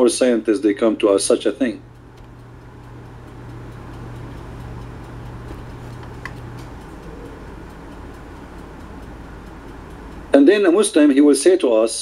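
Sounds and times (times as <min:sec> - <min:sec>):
low steady hum: 0:00.0 - 0:11.3
light ticks: 0:00.2 - 0:12.0.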